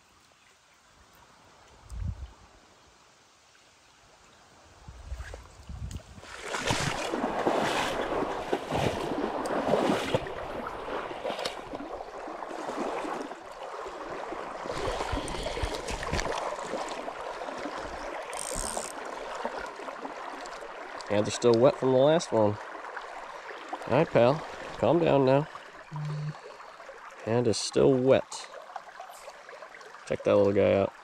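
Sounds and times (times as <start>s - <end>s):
stream water splashing: 3.4s - 31.0s.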